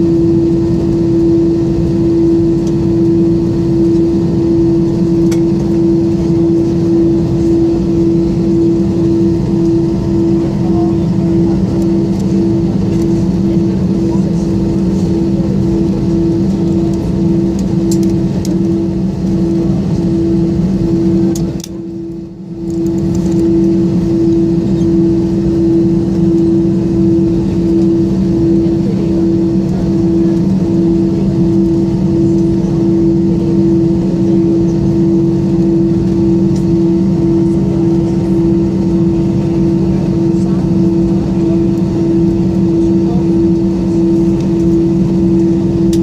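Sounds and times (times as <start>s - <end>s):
jet engines humming at idle: 0.0s - 46.0s
pulsing droning tone: 0.0s - 46.0s.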